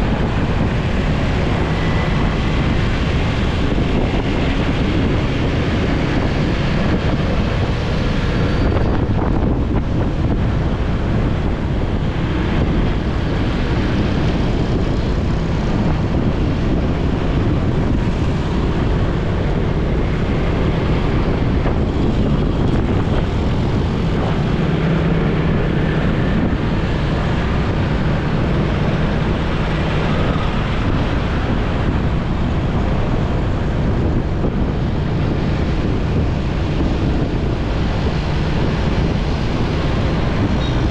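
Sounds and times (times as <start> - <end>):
road noise: 0.0 - 40.9
wind rushing over microphone: 0.0 - 40.9.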